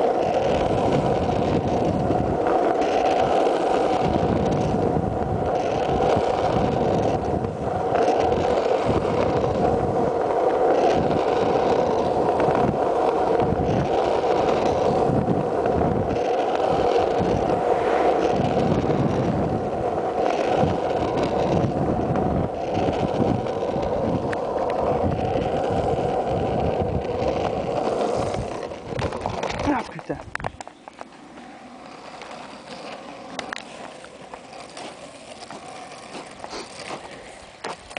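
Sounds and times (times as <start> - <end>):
wind buffeting the microphone: 0.0 - 31.0
wheels rolling on rough asphalt: 0.0 - 37.9.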